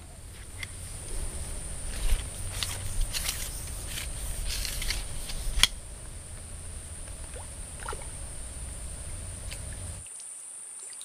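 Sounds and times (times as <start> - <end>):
soft rustling: 0.0 - 10.0
insects droning: 0.0 - 11.0.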